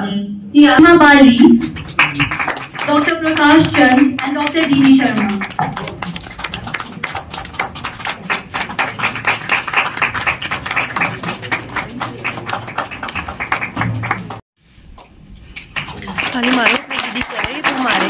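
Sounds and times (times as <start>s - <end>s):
audience applauding: 1.6s - 14.4s, 15.6s - 18.0s.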